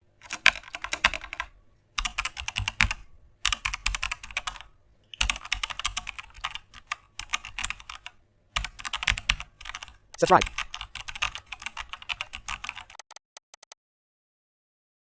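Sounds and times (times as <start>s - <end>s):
rapid keyboard typing: 0.1s - 13.8s.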